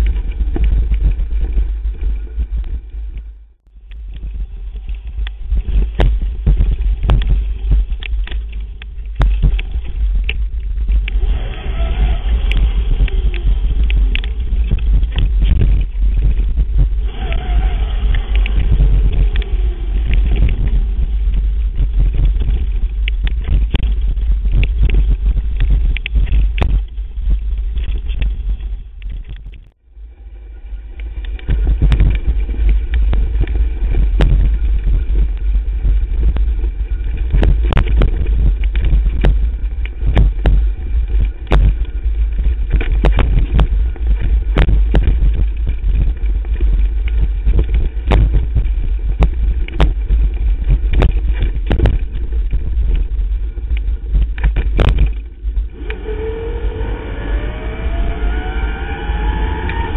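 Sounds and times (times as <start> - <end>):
bike wheels knocking and rattling: 0.0 - 29.8, 31.0 - 55.7
wind and vibration rumble: 0.0 - 59.9.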